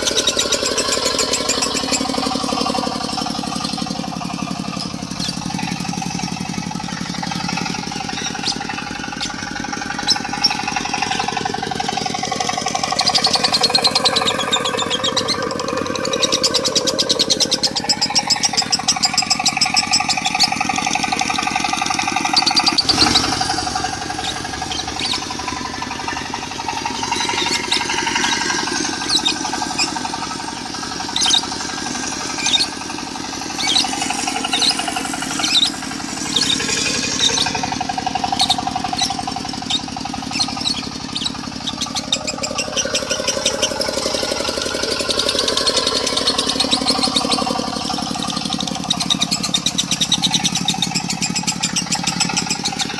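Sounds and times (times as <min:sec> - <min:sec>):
bird chirping and trilling: 0:00.0 - 0:52.9
diesel engine running: 0:00.0 - 0:52.9.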